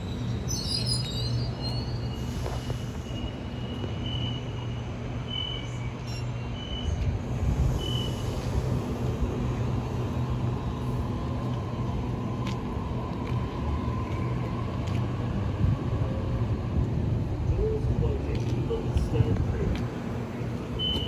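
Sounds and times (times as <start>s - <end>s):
electric train hum: 0.0s - 21.0s.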